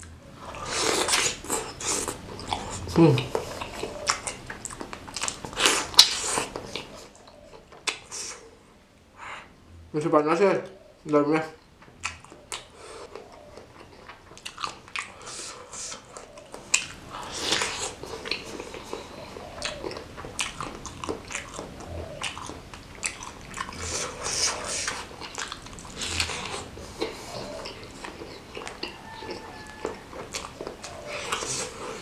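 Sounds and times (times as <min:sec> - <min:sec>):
mouth clicks and smacks: 0:00.0 - 0:08.4, 0:11.6 - 0:32.0
chewing food: 0:00.0 - 0:08.5, 0:11.6 - 0:32.0.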